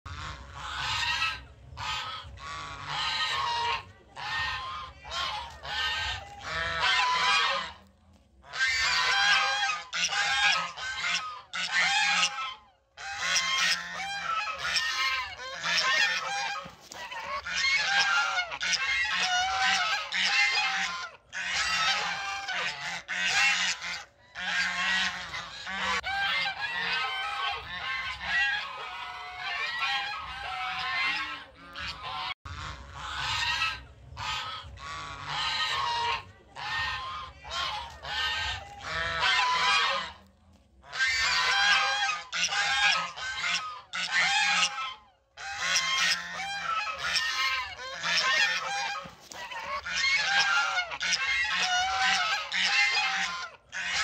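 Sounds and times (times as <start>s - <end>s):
loud goose-like honking calls: 0.1s - 54.0s.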